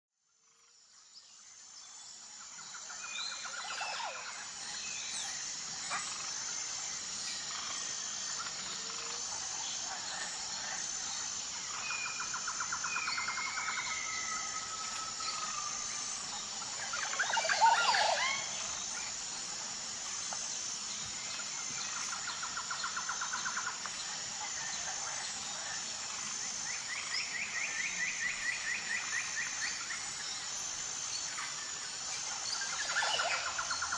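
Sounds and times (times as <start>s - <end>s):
high insect drone: 0.3s - 33.9s.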